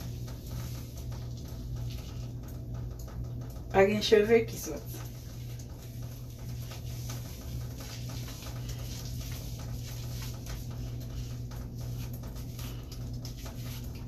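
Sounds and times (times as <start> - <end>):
steady low hum: 0.0 - 14.0
wet hair rustling: 0.0 - 14.0.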